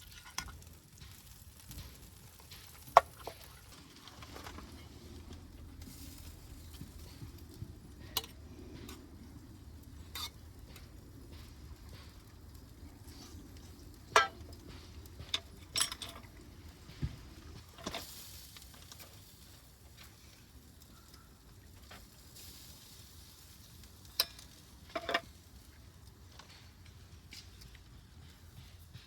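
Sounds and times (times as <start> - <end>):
low sizzling hiss: 0.0 - 28.6
wood fire crackling and popping: 0.0 - 28.9.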